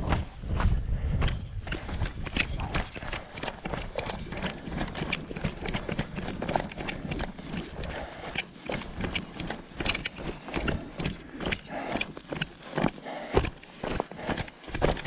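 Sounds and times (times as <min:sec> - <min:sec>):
footsteps crunching on rocky ground: 0:00.0 - 0:15.0.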